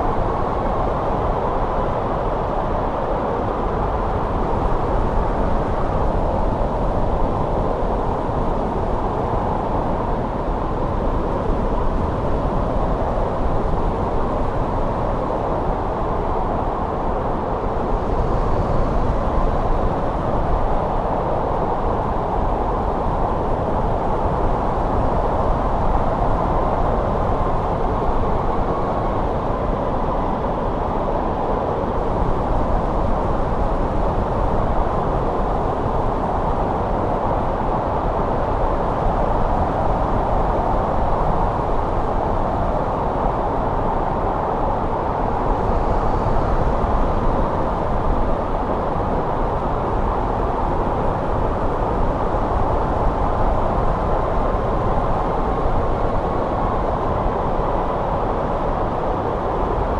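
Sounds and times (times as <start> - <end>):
wind rushing in a snowstorm: 0.0 - 59.9.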